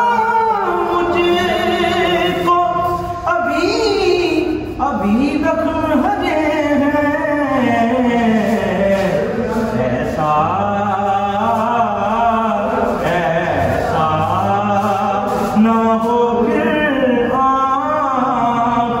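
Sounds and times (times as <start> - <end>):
man singing devotional poem: 0.0 - 19.0.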